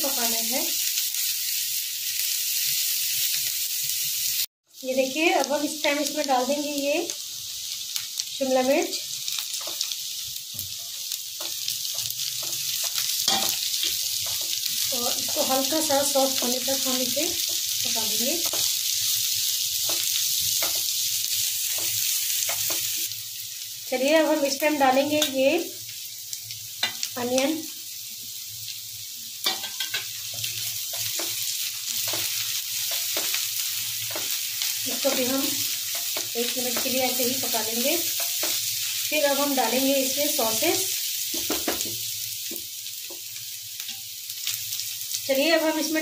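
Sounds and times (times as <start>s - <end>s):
vegetables sizzling in hot oil: 0.0s - 46.0s.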